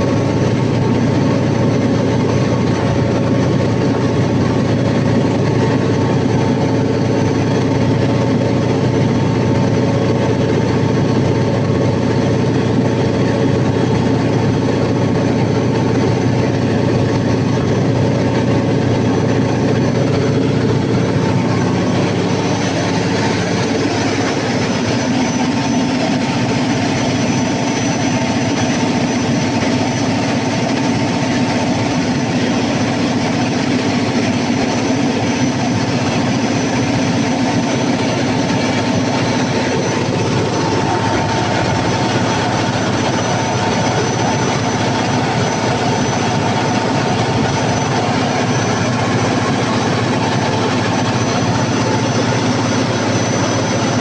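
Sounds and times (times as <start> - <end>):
diesel generator engine running: 0.0 - 54.0.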